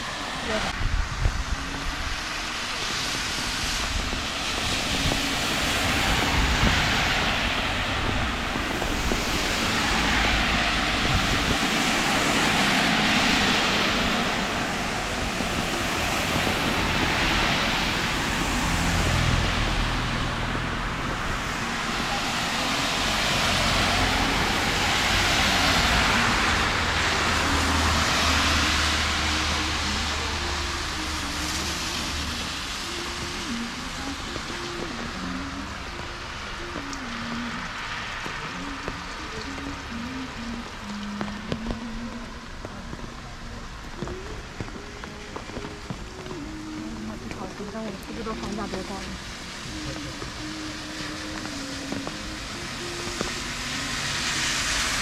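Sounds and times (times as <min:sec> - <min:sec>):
heavy rain: 0:00.0 - 0:55.0
tyres hissing on wet road: 0:00.0 - 0:55.0
low engine hum: 0:04.0 - 0:55.0.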